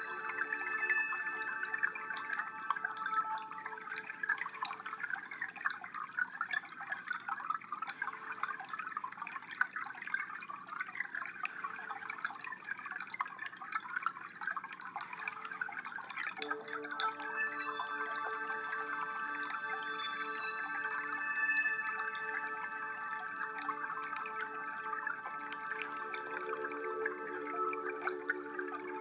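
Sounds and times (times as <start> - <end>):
water trickling and bubbling: 0.0 - 29.0.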